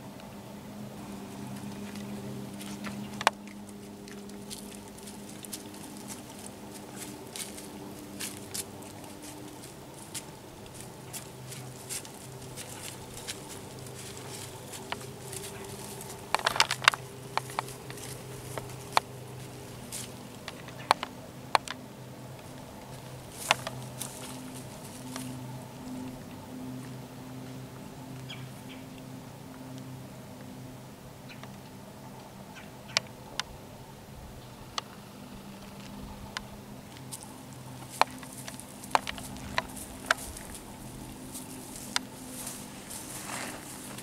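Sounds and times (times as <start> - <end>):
faint steady hum: 0.0 - 44.0
hooves stepping through dry leaves: 0.9 - 28.8, 36.2 - 44.0.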